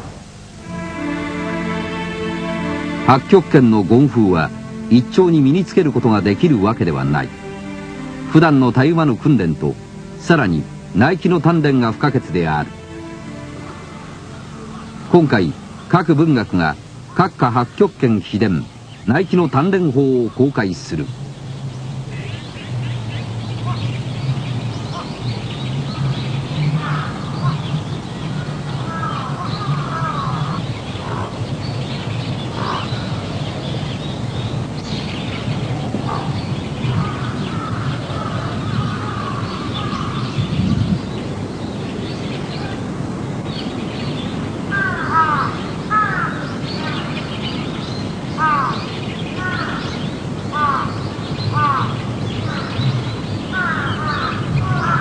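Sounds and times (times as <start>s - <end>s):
low steady hum: 0.0s - 44.6s
birds calling: 0.0s - 55.0s.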